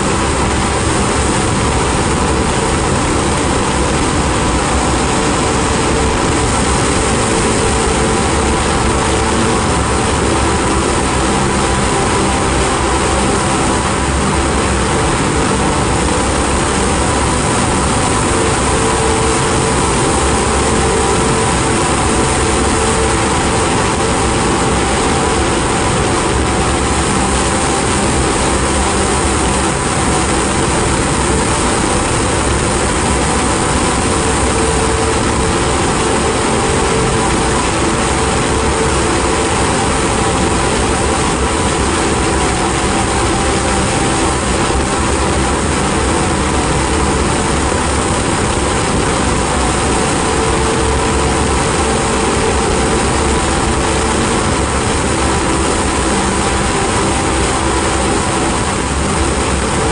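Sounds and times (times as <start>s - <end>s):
ambient drone music: 0.0s - 59.9s.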